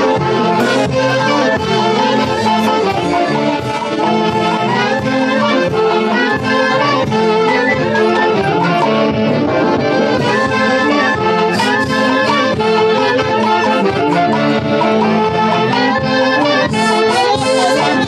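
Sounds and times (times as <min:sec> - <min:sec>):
wind band playing: 0:00.0 - 0:18.0.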